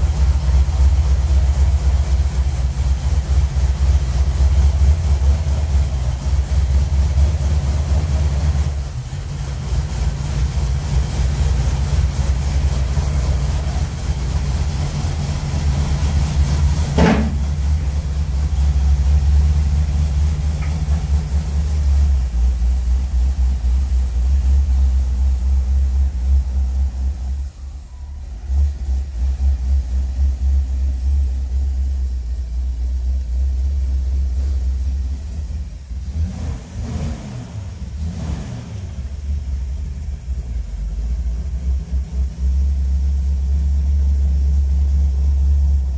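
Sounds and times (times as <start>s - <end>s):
truck engine idling: 0.0s - 45.9s.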